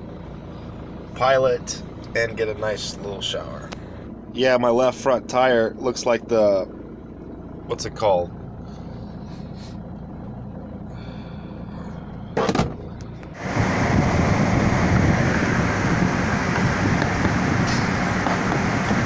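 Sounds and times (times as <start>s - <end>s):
low steady hum: 0.0s - 19.0s
wind: 0.0s - 19.0s.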